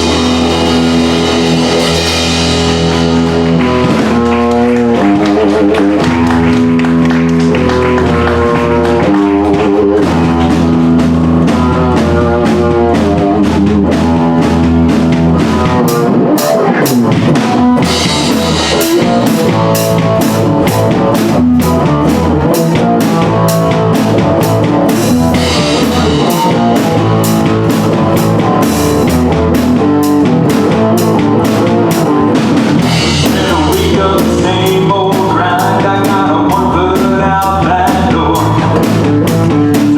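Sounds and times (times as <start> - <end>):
drum kit beat: 0.0 - 39.9
electric guitar: 0.0 - 39.9
live band playing: 0.0 - 39.9.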